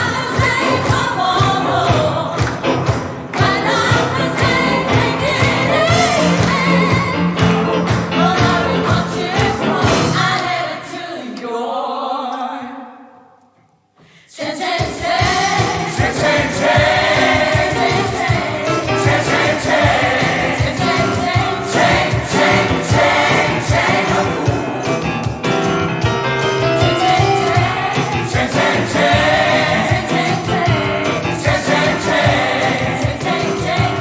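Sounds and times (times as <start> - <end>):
band playing: 0.0 - 10.6, 15.0 - 34.0
gospel choir singing: 0.0 - 13.2, 14.2 - 34.0.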